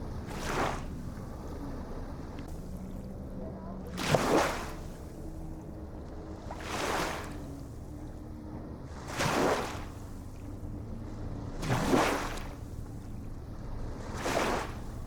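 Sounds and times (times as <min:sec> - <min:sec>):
low rumble of sea: 0:00.0 - 0:15.0
ocean waves breaking: 0:00.0 - 0:15.0.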